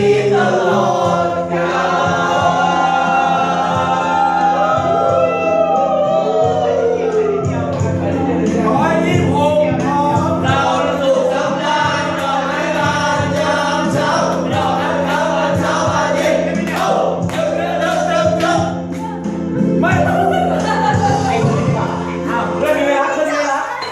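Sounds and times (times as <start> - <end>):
instrumental accompaniment: 0.0 - 23.9
pop song with group vocals: 0.0 - 23.9.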